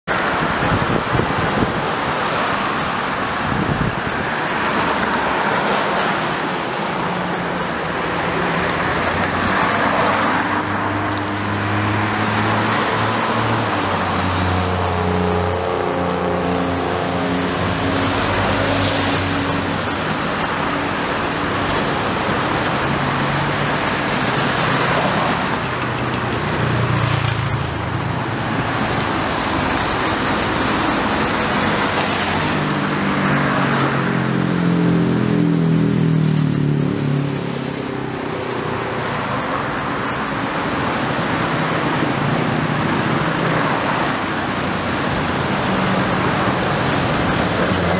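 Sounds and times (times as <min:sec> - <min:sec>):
cars passing close by: 0:00.1 - 0:47.9.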